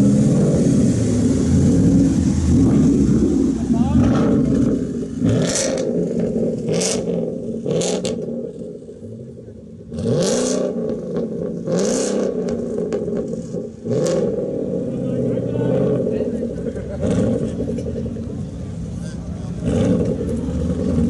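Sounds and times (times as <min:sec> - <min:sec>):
car engine revving loudly: 0:00.0 - 0:21.0.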